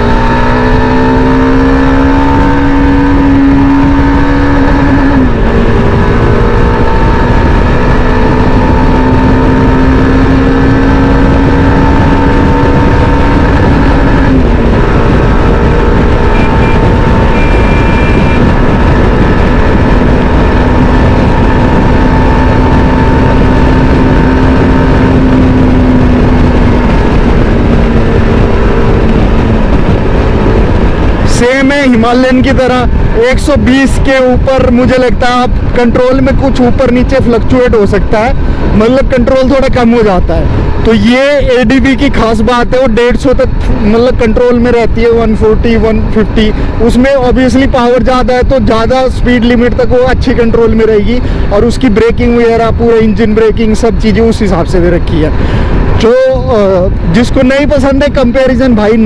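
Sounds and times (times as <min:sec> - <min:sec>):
motorcycle engine accelerating: 0:00.0 - 0:59.0
wind rush on microphone: 0:00.0 - 0:59.0.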